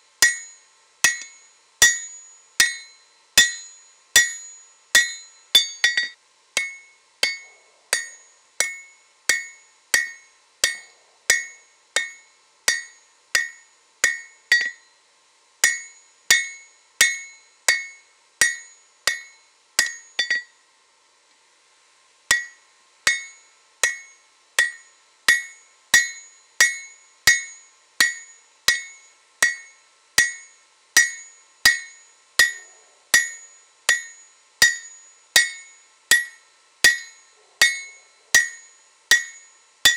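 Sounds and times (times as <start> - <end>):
hammer ringing on anvil: 0.2 - 15.0, 15.6 - 20.6, 22.3 - 39.9.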